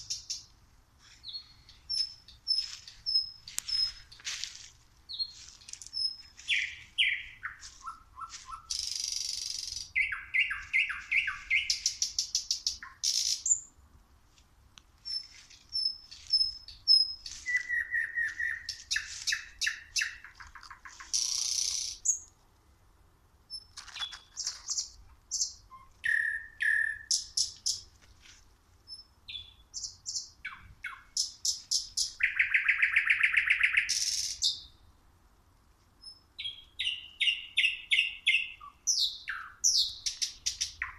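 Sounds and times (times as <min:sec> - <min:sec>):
nightingale singing: 0:00.0 - 0:04.5, 0:05.1 - 0:13.8, 0:15.0 - 0:22.4, 0:23.4 - 0:28.0, 0:28.8 - 0:35.0, 0:36.0 - 0:40.9.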